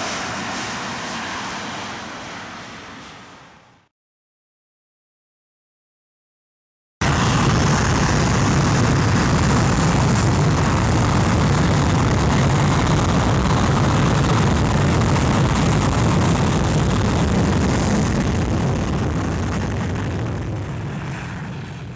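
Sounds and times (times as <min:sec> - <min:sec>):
aircraft engines at takeoff power: 0:00.0 - 0:03.9, 0:07.0 - 0:21.9.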